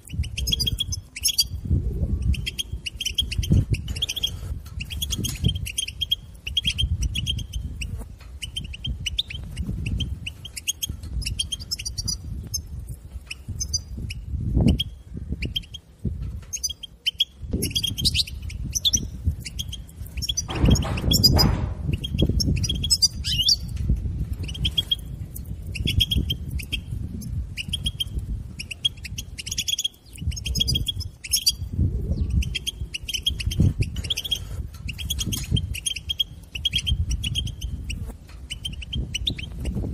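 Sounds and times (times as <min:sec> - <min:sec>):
goldfinch chirping: 0:00.0 - 0:01.6, 0:02.2 - 0:15.9, 0:16.5 - 0:23.8, 0:24.4 - 0:39.8.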